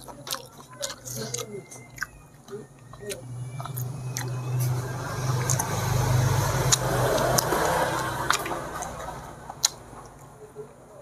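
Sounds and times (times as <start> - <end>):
close-up chewing: 0.0 - 10.4
vehicle passing by: 0.9 - 10.6.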